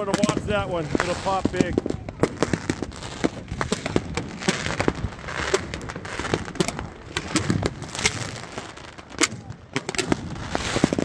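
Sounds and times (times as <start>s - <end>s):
fireworks hissing: 0.0s - 11.0s
fireworks popping and crackling: 0.0s - 11.0s.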